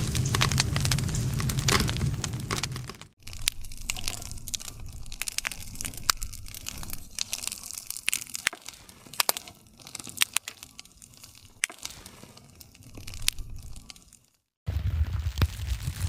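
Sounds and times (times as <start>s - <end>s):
burning wood popping and snapping: 0.0s - 16.0s
low rumble of flames: 0.0s - 16.0s.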